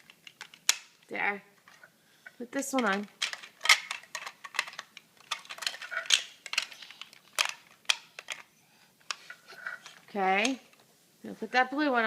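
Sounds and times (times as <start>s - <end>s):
plastic bricks clicking: 0.0s - 1.9s, 2.7s - 10.8s.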